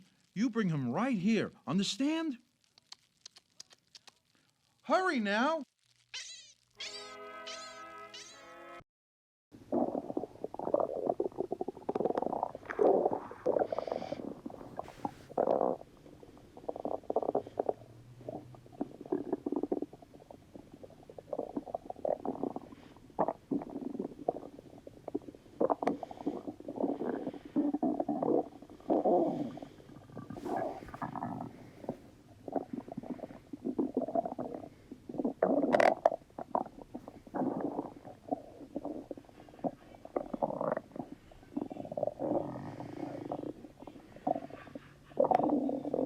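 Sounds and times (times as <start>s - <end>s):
stomach rumbling gurgles: 2.6s - 4.8s, 9.6s - 46.0s.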